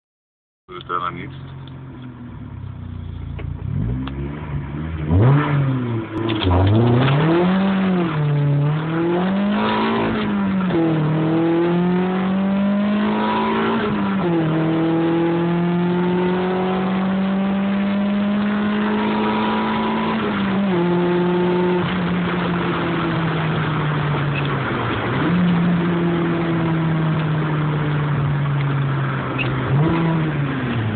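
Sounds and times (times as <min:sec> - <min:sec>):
car engine accelerating through gears: 0:01.4 - 0:30.9.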